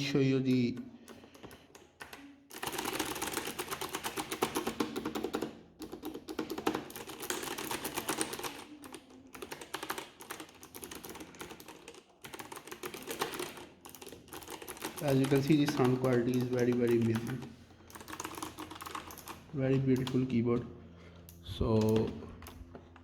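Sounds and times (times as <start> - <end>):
mechanical keyboard typing: 0.0 - 20.7, 21.3 - 23.0.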